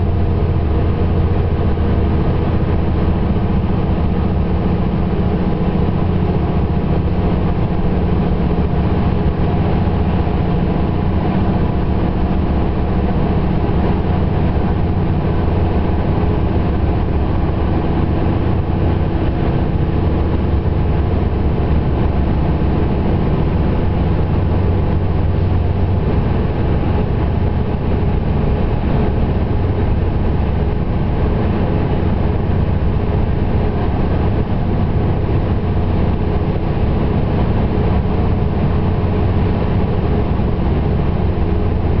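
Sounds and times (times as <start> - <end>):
railcar diesel engine droning: 0.0 - 42.0.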